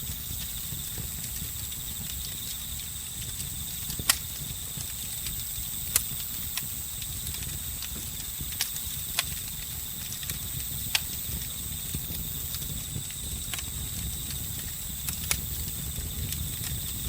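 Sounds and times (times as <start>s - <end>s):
campfire crackling: 0.0s - 17.0s
crickets trilling: 0.0s - 17.0s.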